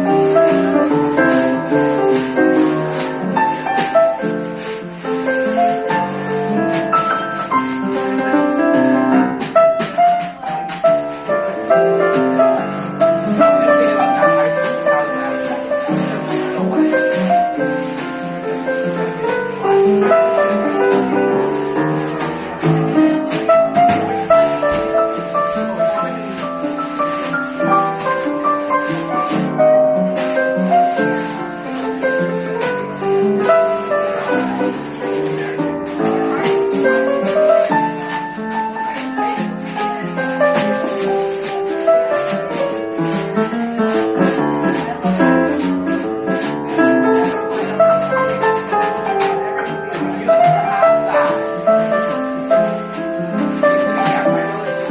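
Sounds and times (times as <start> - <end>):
jazz band playing: 0.0 - 54.9
piano chords and melody: 0.0 - 54.9.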